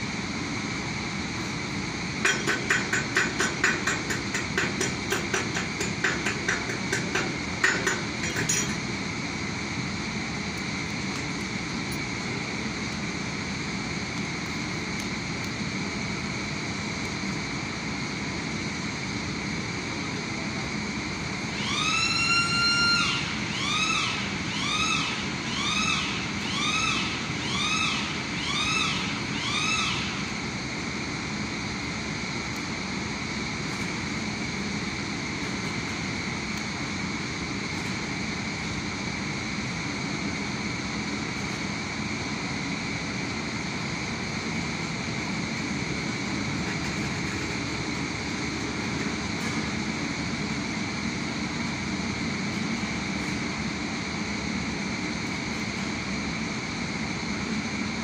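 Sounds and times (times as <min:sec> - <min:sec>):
high machinery hum: 0:00.0 - 0:58.0.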